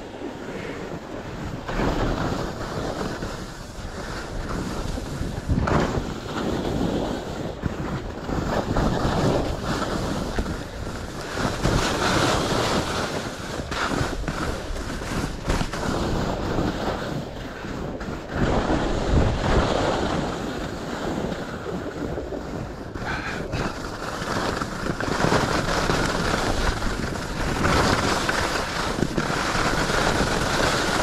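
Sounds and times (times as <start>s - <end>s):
skis scraping over snow: 0.0s - 31.0s
wind buffeting microphone: 0.0s - 31.0s.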